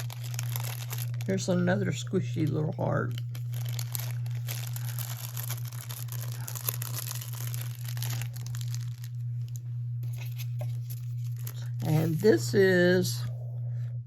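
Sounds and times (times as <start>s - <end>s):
packaging and papers rustling: 0.0s - 1.8s, 2.5s - 12.7s
steady low hum: 0.0s - 14.0s.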